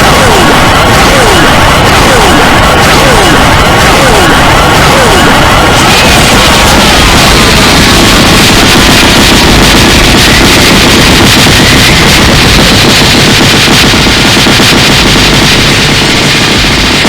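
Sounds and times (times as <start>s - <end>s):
rapid punch and hit effects: 0.0s - 17.0s.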